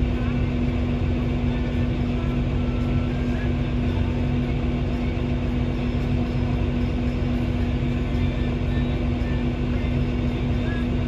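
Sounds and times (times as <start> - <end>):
vehicle engine hum from cab: 0.0 - 11.0.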